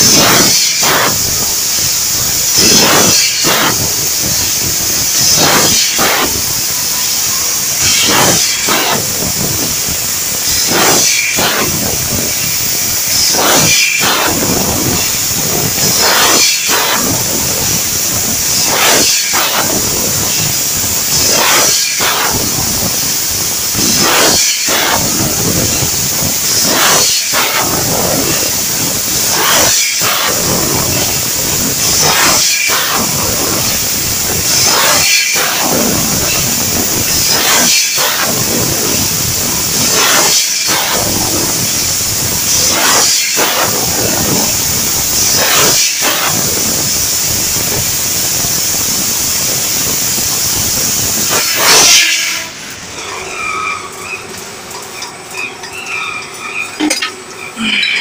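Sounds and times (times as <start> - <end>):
laser cutter gas hissing: 0.0 - 55.0.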